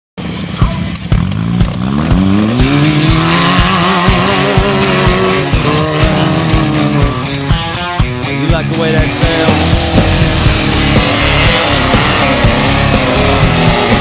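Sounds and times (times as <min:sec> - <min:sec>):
buggy engine revving: 0:00.2 - 0:14.0
music with steady beat: 0:02.2 - 0:14.0.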